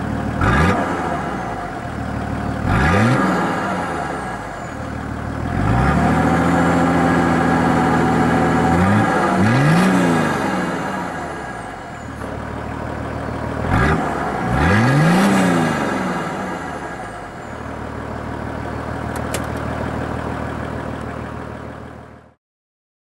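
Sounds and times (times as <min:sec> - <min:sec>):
diesel engine idling and revving: 0:00.0 - 0:22.4.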